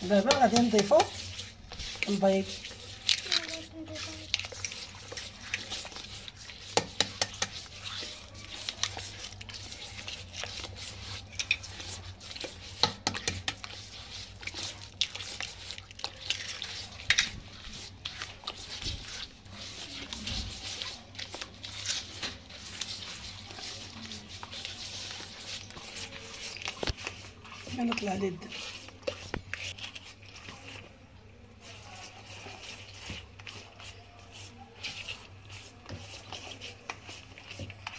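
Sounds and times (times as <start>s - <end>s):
wet batter squelching: 0.0s - 37.9s.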